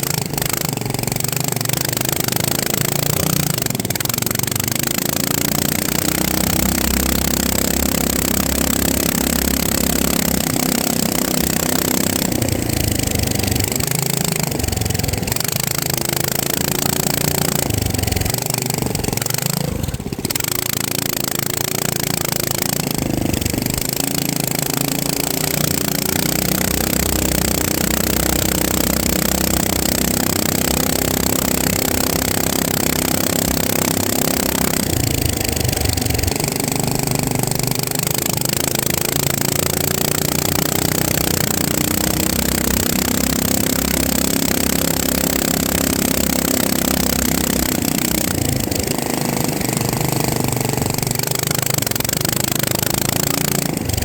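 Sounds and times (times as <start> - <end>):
drone motors and propellers: 0.0 - 54.0.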